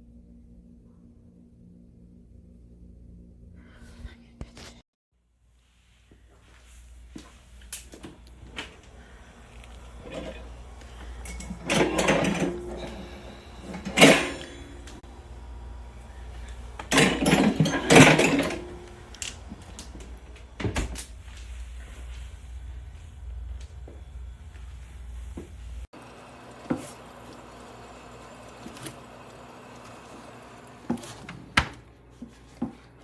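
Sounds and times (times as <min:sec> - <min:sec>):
steady low hum: 0:05.6 - 0:33.0.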